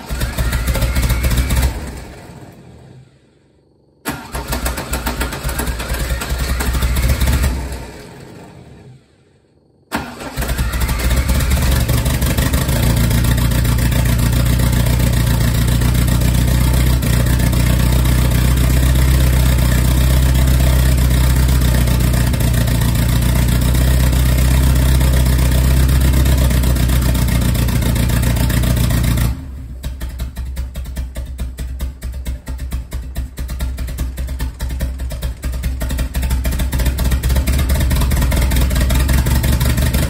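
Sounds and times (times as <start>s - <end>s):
car engine running loud: 0.0s - 3.3s, 4.1s - 9.2s, 10.0s - 40.0s.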